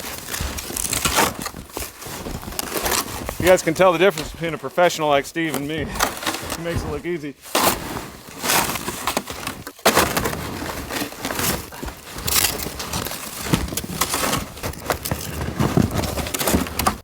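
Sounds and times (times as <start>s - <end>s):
snow shovel scraping snow: 0.0s - 17.0s.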